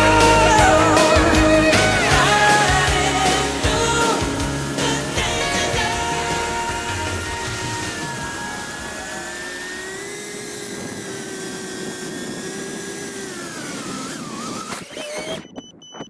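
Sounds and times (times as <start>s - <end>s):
quadcopter motors whining: 0.0s - 15.7s.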